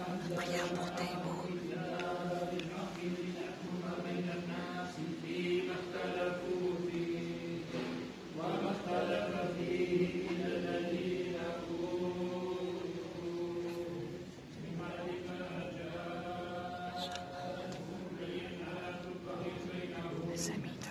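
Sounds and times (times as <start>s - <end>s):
person chanting: 0.0s - 7.6s, 8.4s - 20.9s.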